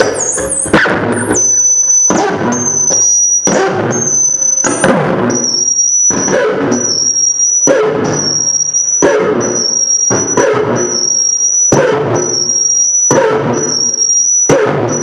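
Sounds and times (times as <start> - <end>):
bursts of distorted noise: 0.0 - 15.0
high-pitched steady whine: 0.0 - 15.0.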